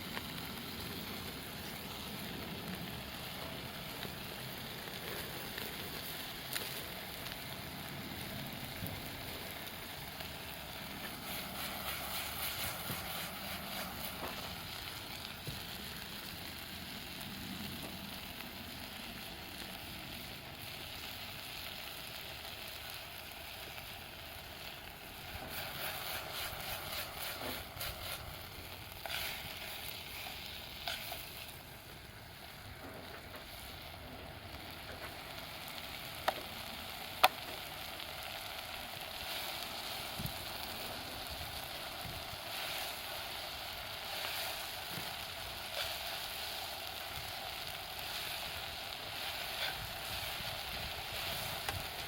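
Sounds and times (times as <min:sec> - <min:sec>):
campfire crackling: 0:00.0 - 0:52.0
fire popping: 0:00.0 - 0:52.0.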